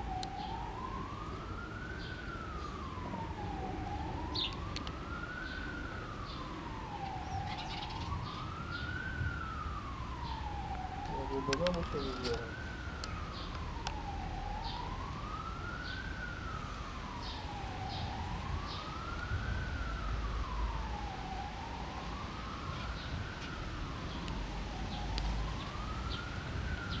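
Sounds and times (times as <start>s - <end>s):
siren wailing: 0.0s - 27.0s.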